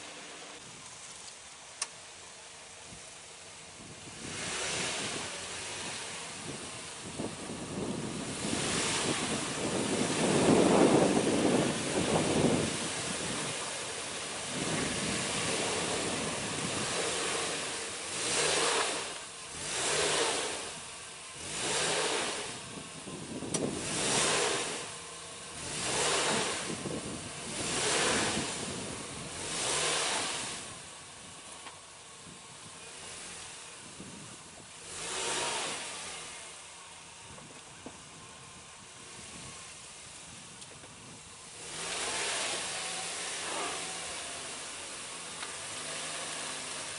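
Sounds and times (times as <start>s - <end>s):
engine revving with wheels spinning: 0.0s - 46.9s.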